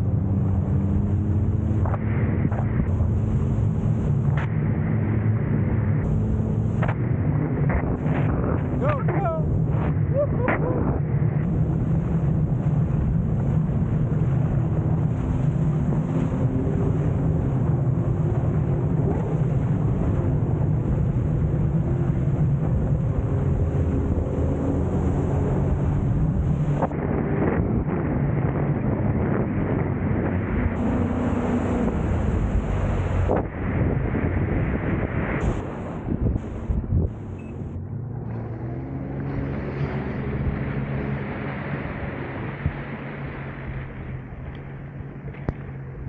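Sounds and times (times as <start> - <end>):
jet ski engine running: 0.0 - 46.0
wind buffeting microphone: 0.0 - 46.0.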